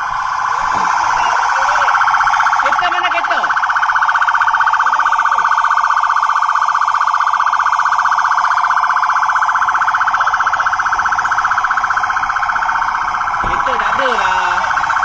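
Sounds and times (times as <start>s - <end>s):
police siren pulsing: 0.0s - 15.0s.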